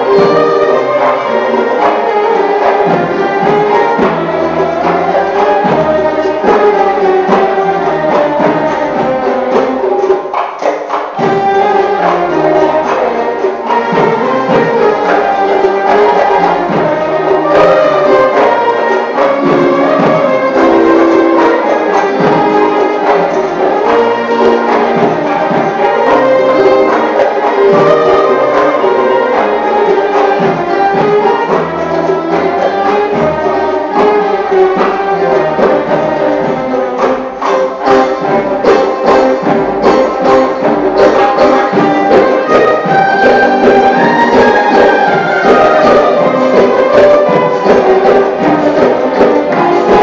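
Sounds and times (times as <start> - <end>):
plucked qanun notes: 0.0 - 50.0
violin melody: 0.0 - 50.0.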